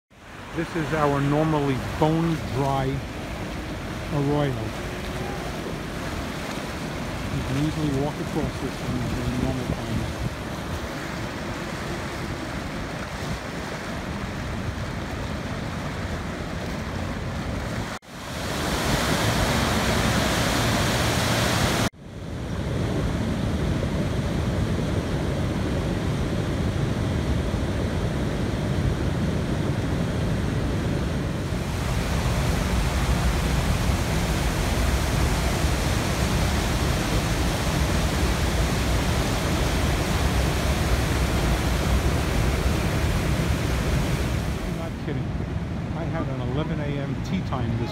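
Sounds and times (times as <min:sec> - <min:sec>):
floodwater rushing: 0:00.1 - 0:21.9, 0:27.6 - 0:47.9.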